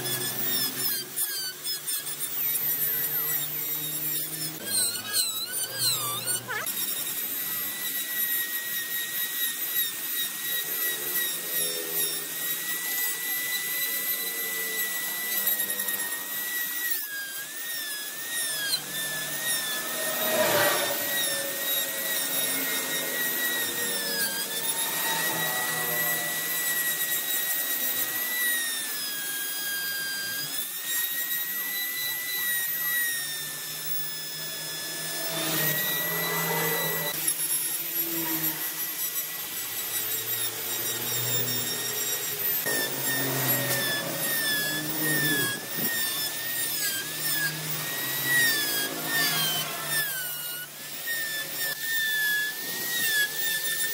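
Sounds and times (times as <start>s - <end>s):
electric power tool carving wood: 0.0s - 53.9s.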